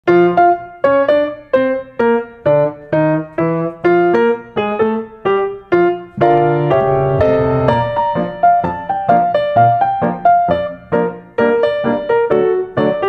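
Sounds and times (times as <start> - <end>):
piano music: 0.1 - 13.0.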